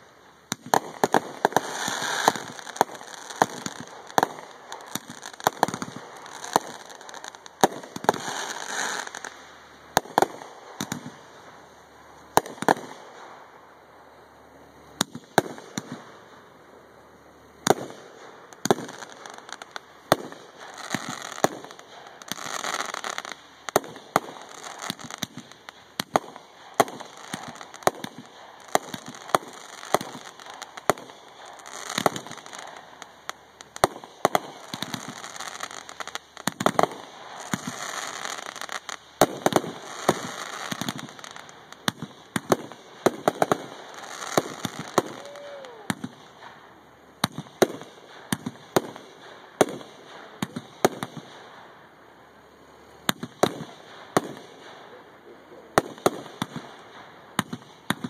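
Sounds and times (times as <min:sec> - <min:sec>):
firework bangs: 0:00.0 - 0:52.4, 0:53.0 - 0:58.0
firework crackling: 0:00.0 - 0:58.0.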